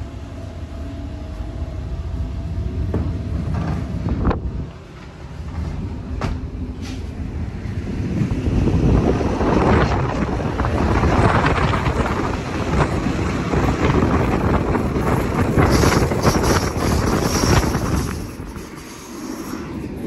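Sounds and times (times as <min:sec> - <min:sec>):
train running on track: 0:00.0 - 0:20.0
wind buffeting microphone: 0:02.7 - 0:18.9.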